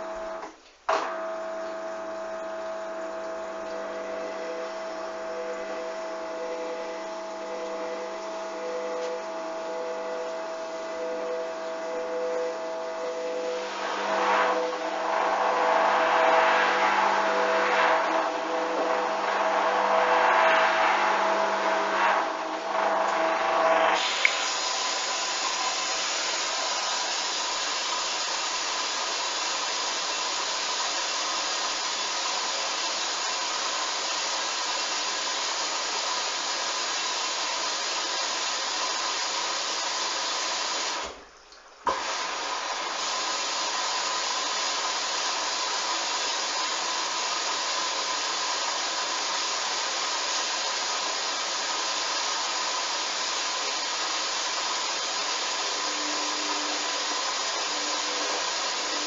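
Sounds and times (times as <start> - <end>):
washing machine drum motor whirring: 0.0 - 59.0
rushing noise with high whine: 3.4 - 36.1, 41.9 - 59.0.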